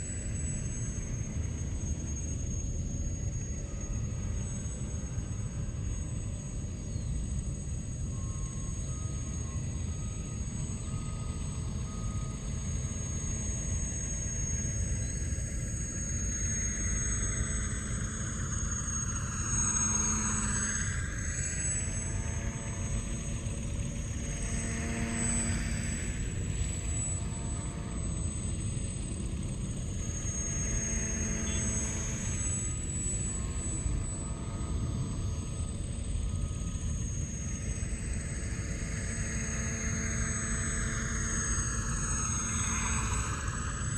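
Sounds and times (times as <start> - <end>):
model rotorcraft whirring: 7.7 - 43.9.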